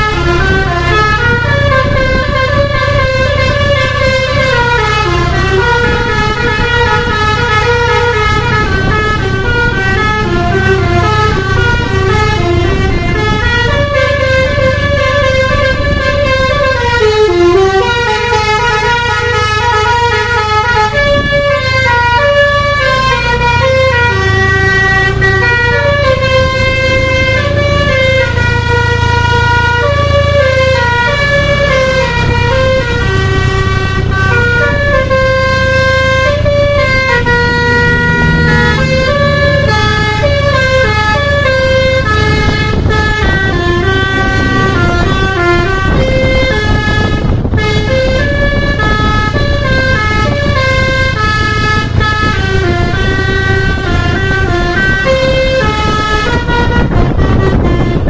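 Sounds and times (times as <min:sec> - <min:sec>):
bus engine running: 0:00.0 - 0:58.0
musical bus horn melody: 0:00.0 - 0:58.0.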